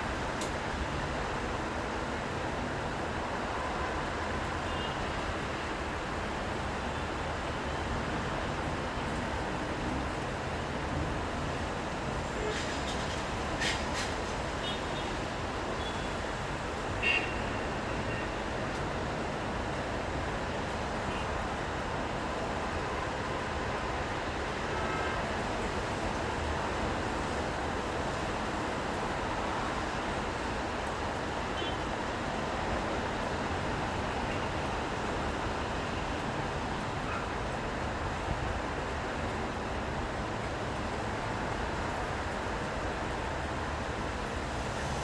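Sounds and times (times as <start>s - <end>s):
traffic in the rain: 0.0s - 45.0s.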